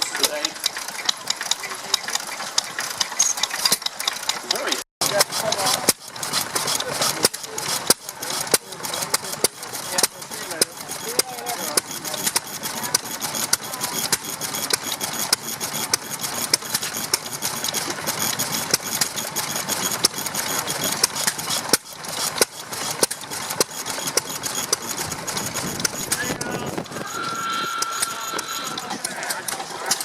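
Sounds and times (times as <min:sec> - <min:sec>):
stationary engine knocking: 0:00.0 - 0:30.0.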